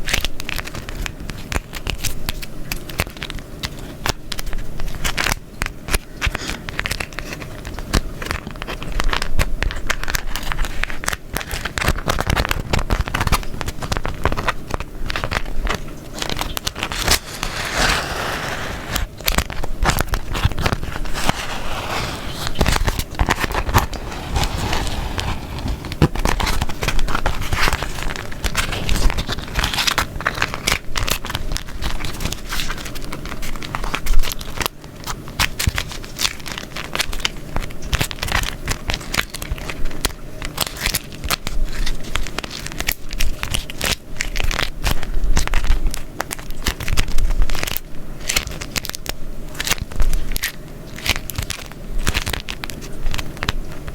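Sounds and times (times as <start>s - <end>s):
wax wrap crackling and crinkling: 0.0s - 53.9s.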